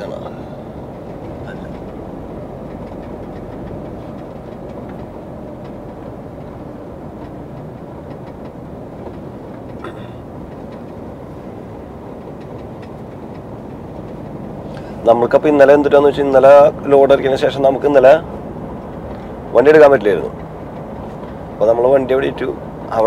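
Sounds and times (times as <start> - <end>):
truck engine and road drone: 0.0 - 23.0.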